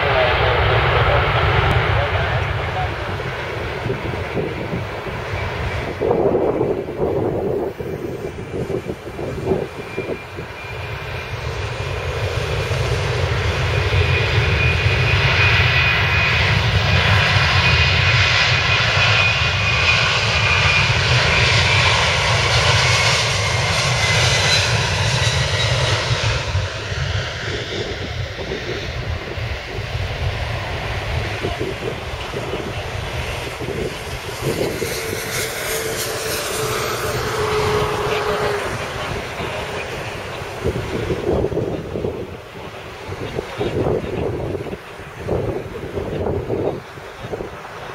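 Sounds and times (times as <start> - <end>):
jet airliner passing: 0.0 - 47.9.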